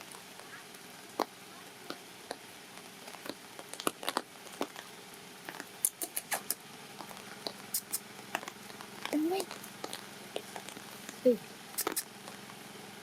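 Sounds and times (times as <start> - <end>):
raindrops clicking on surfaces: 0.0 - 4.9, 5.5 - 12.6
steady rain hiss: 0.0 - 5.9, 6.5 - 13.0.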